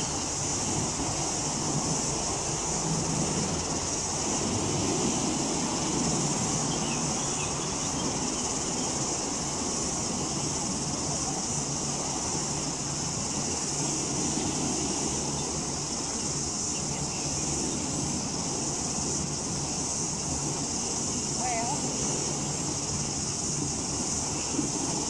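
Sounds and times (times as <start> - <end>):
constant high hiss: 0.0 - 25.0.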